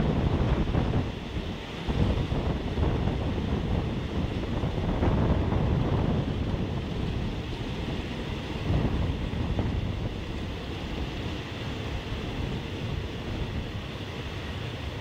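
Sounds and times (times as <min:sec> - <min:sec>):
train wheels rumbling on rails: 0:00.0 - 0:15.0
wind rushing over microphone: 0:00.0 - 0:15.0.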